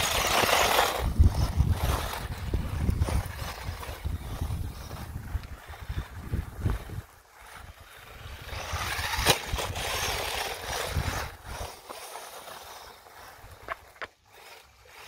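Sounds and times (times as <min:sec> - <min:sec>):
toy car rattling over leaves: 0:00.0 - 0:15.0.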